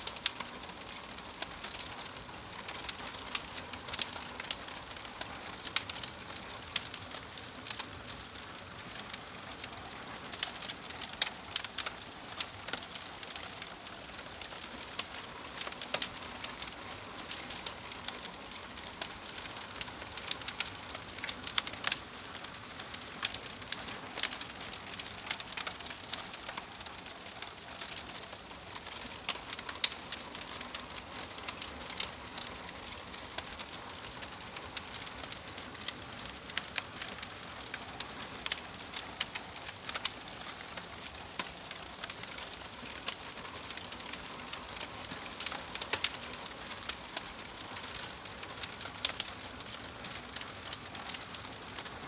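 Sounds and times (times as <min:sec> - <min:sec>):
fire crackling: 0:00.0 - 0:52.0.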